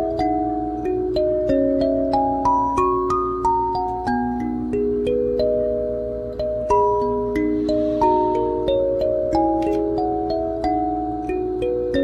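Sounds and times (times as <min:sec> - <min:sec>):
kalimba melody: 0:00.0 - 0:12.0.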